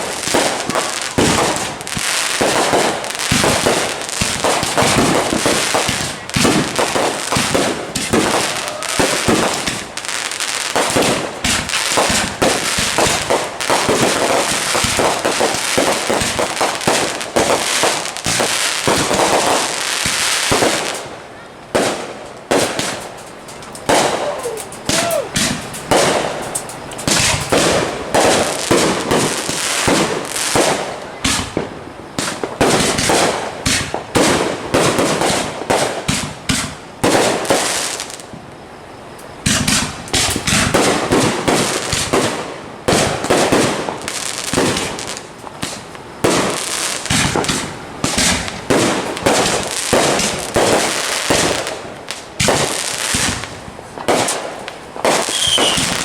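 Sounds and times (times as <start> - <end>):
fireworks bangs and cracks: 0.0 - 56.0.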